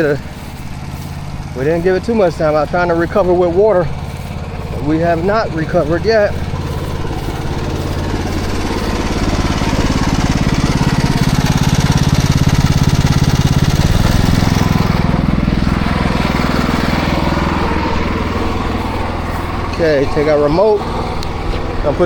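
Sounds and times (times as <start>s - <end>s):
water spray hissing: 0.0s - 21.8s
pressure washer engine running: 0.0s - 22.0s.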